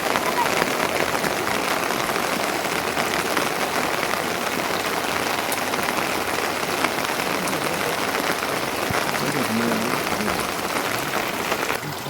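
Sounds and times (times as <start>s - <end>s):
sharp raindrop ticks: 0.0s - 11.8s
rain falling: 0.0s - 12.0s.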